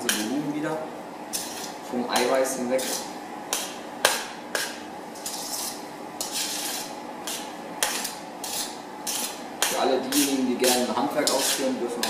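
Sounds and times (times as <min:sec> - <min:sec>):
utensil scraping metal bowl: 0:00.0 - 0:00.6, 0:01.3 - 0:03.7, 0:04.6 - 0:12.0.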